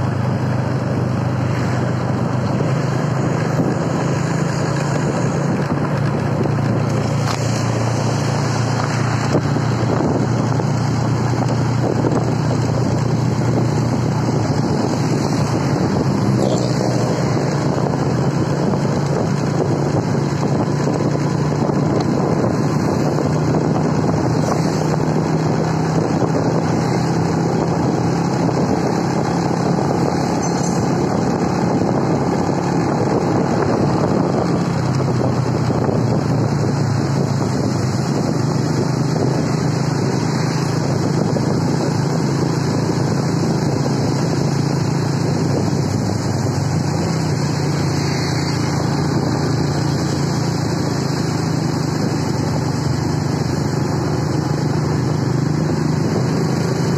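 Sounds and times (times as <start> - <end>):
vehicle engine drone and road noise: 0.0 - 56.9
wind on microphone: 0.0 - 56.9.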